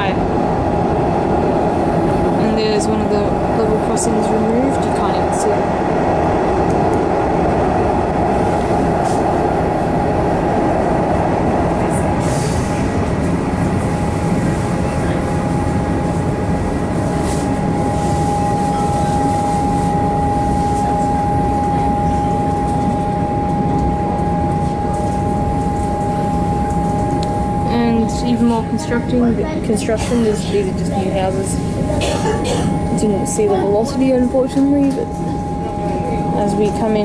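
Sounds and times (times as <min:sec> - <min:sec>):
steady whine: 0:00.0 - 0:37.0
train wheels rumbling: 0:00.0 - 0:37.0.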